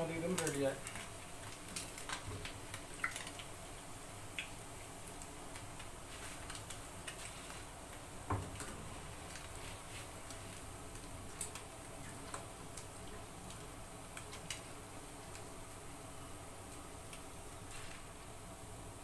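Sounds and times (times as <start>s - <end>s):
oil crackling in frying pan: 0.0s - 19.0s.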